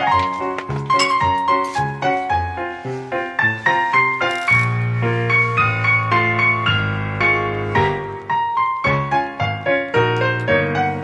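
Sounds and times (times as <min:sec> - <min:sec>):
keyboard piano piece: 0:00.0 - 0:11.0.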